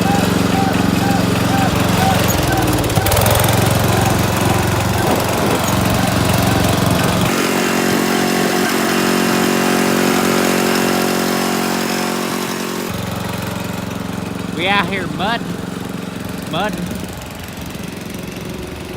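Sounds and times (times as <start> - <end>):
riding lawn mower engine: 0.0 - 18.9.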